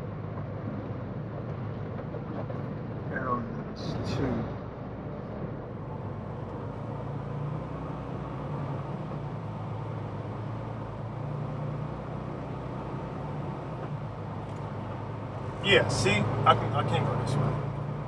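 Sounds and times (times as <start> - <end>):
diesel truck engine running: 0.0 - 18.0
road noise: 0.0 - 18.0.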